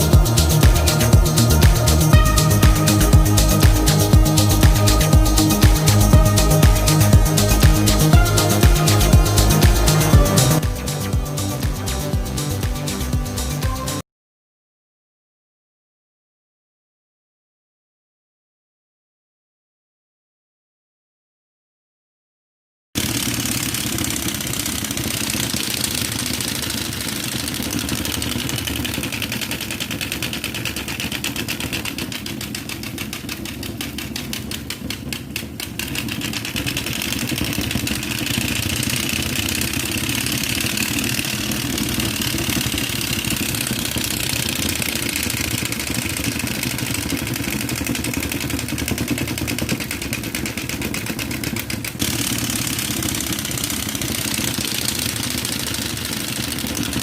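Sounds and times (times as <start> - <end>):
motorcycle engine running: 0.0 - 14.0, 23.0 - 57.0.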